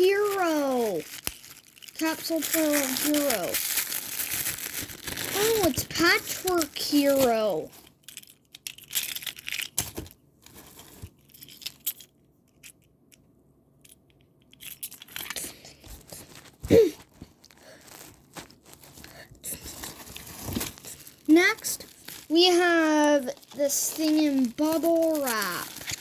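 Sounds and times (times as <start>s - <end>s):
plastic packaging crinkling: 0.0s - 12.1s, 14.7s - 26.0s.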